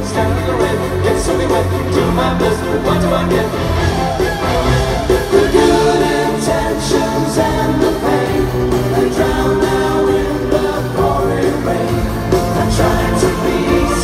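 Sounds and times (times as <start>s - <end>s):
rock band with orchestra: 0.0s - 14.0s
sustained vocal harmonies: 0.0s - 14.0s.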